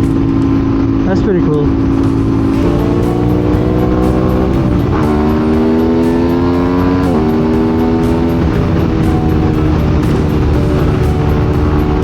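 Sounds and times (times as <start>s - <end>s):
motorcycle engine accelerating: 0.0s - 12.0s
wind rumble: 0.0s - 12.0s.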